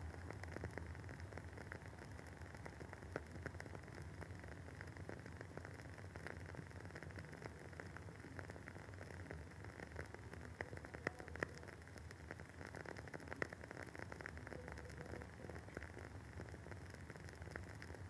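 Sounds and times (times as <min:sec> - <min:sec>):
candle wick crackling: 0:00.0 - 0:18.0
faint low hum: 0:00.0 - 0:18.0.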